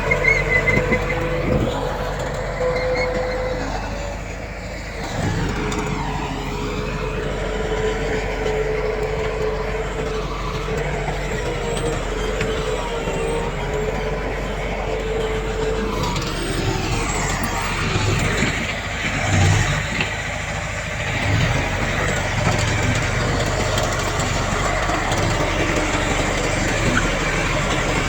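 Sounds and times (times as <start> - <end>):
heavy diesel machinery rumbling: 0.0 - 28.0
machinery whine: 0.0 - 28.0.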